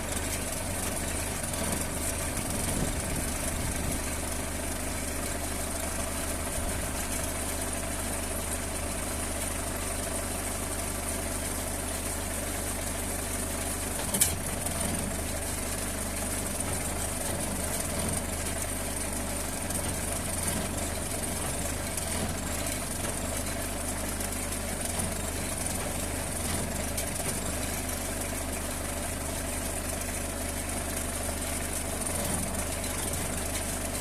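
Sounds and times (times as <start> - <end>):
chainsaw engine idling: 0.0 - 34.0.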